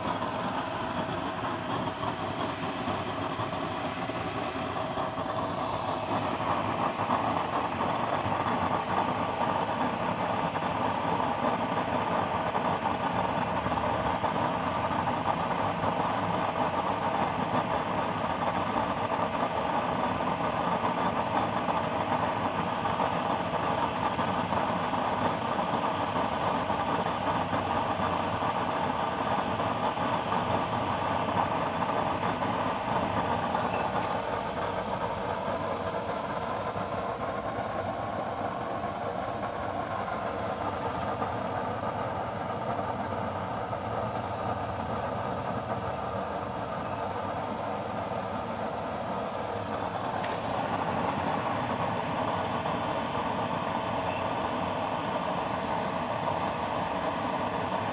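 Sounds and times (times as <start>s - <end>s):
oil burner stove rushing: 0.0s - 57.9s.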